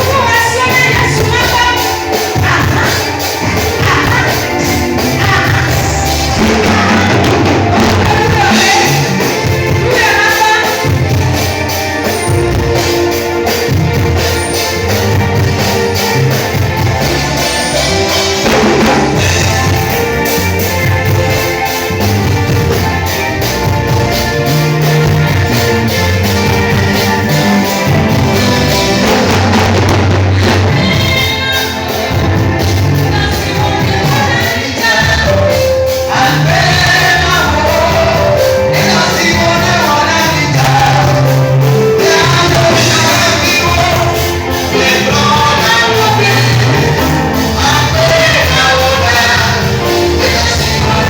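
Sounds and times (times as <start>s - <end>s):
band with strong bass: 0.0s - 51.0s
gospel choir singing: 0.0s - 51.0s.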